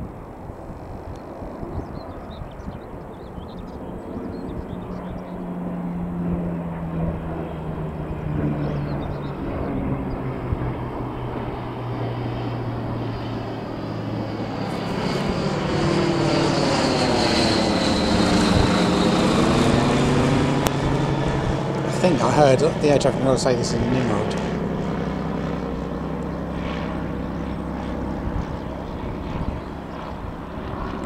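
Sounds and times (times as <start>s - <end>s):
propeller aircraft engine droning: 0.0s - 31.0s
propeller aircraft passing overhead: 0.0s - 31.0s.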